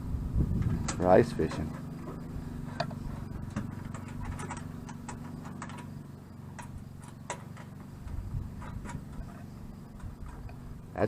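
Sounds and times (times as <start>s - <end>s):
heater blower motor humming: 0.0s - 11.0s.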